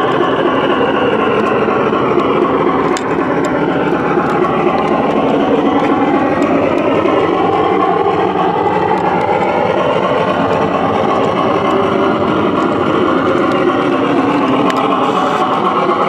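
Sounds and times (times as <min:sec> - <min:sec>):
model train wheels clattering on rails: 0:00.0 - 0:16.0.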